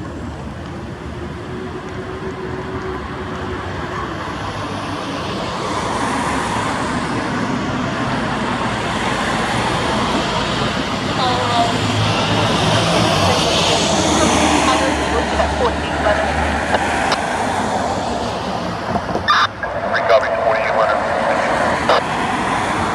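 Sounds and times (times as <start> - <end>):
road vehicle rushing: 0.0 - 22.9.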